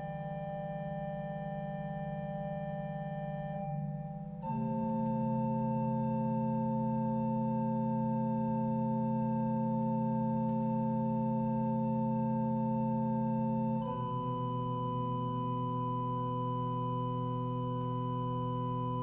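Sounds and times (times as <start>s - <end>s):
organ playing sustained chords: 0.0s - 19.0s.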